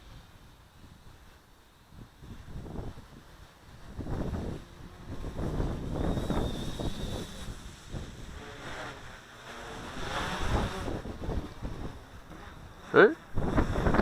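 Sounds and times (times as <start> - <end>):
wind buffeting microphone: 0.0 - 14.0
quadcopter motors whining: 2.2 - 14.0.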